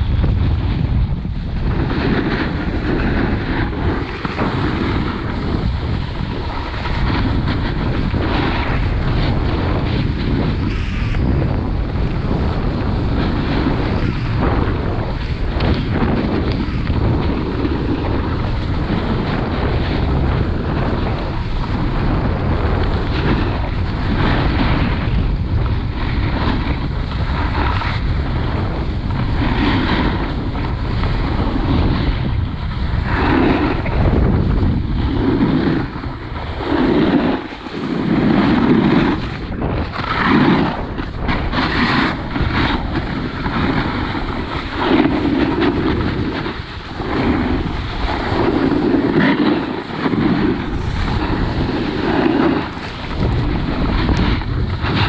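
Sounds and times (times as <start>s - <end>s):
snowboard scraping over snow: 0.0s - 55.0s
wind buffeting microphone: 0.0s - 55.0s.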